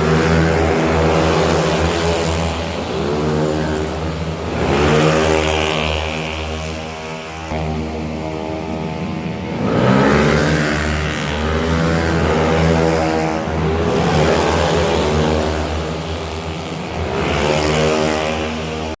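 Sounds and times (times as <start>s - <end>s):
scooter engines revving: 0.0s - 19.0s.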